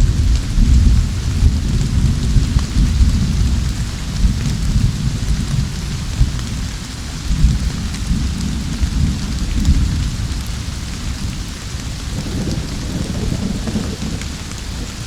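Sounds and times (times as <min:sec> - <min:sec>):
rain hissing and pattering: 0:00.0 - 0:15.0
rolling rumble of thunder: 0:00.0 - 0:15.0.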